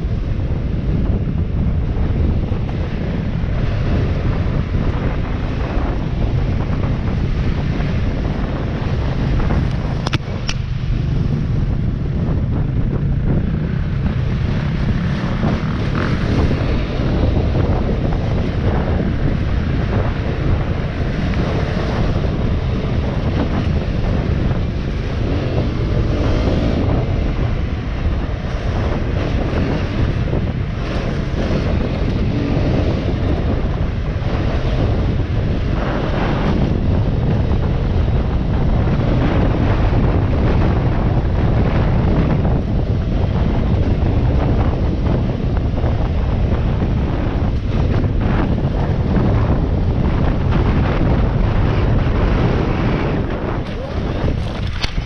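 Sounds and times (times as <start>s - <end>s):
wind buffeting microphone: 0.0s - 55.0s
motorbike engine: 0.1s - 55.0s.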